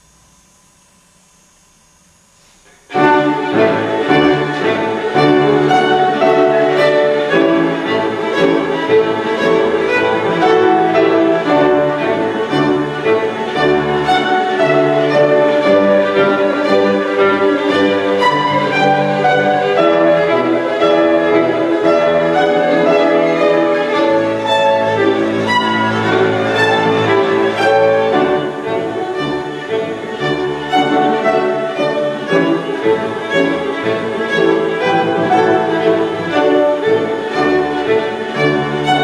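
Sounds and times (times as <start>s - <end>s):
violin playing quick notes: 2.6s - 39.0s
grand piano: 2.7s - 39.0s.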